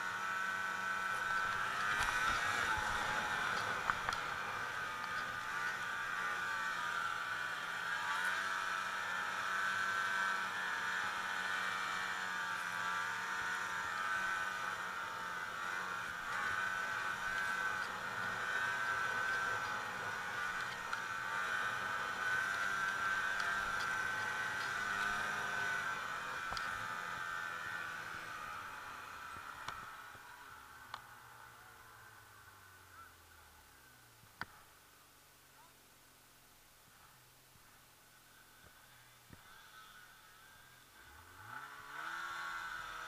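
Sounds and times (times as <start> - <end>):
snowmobile engine running: 0.0 - 34.7, 36.9 - 43.0.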